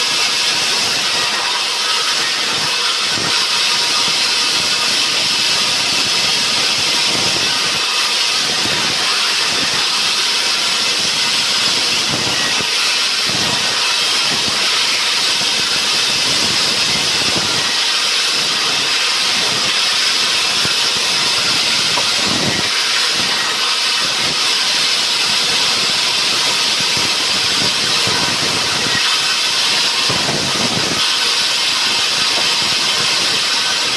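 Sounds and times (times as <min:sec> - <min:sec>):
saw cutting a log: 0:00.0 - 0:33.9.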